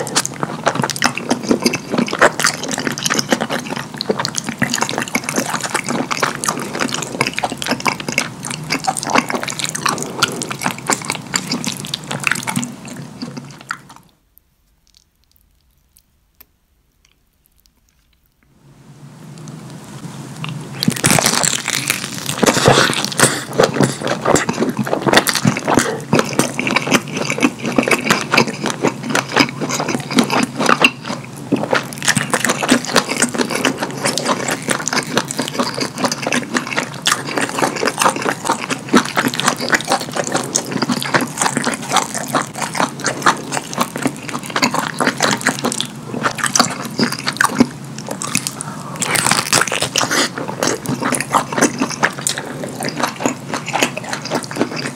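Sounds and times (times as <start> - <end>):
wet chewing and lip smacking: 0.0 - 18.5, 20.4 - 54.9.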